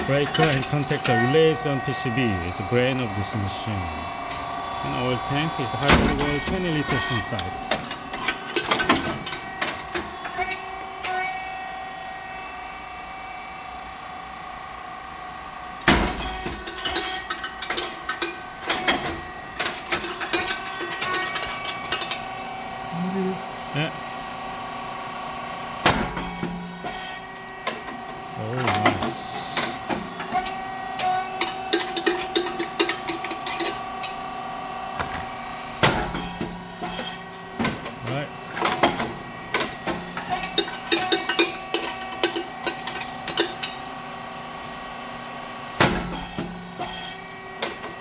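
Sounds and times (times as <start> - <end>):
machine motor whine: 0.0 - 48.0.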